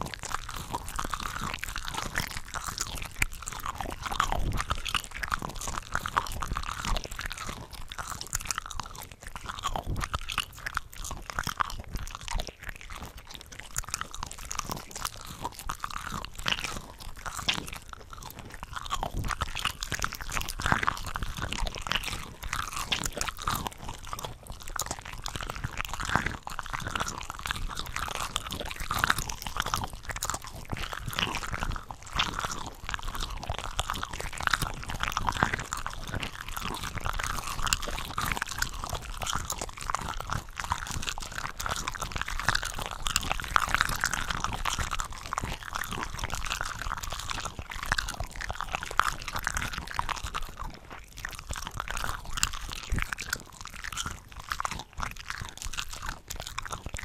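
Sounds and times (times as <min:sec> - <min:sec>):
shrimp crunching while chewing: 0:00.0 - 0:57.0.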